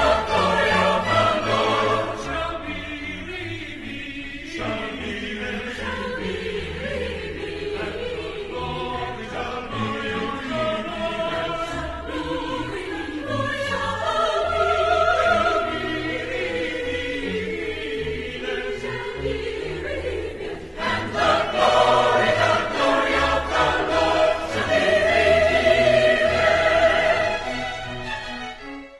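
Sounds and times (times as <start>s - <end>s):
choral singing: 0.0s - 28.9s.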